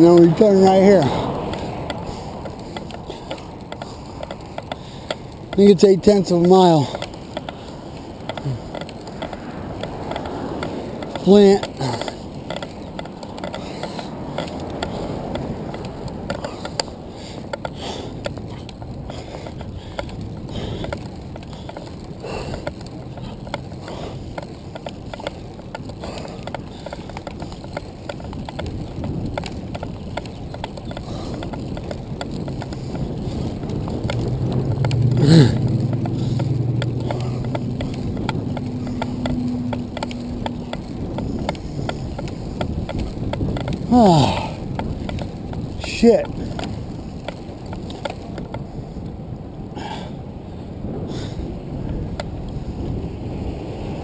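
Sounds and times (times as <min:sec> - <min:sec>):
bicycle chain and gears clicking: 0:00.0 - 0:54.0
tyres and wind rumble: 0:00.0 - 0:54.0.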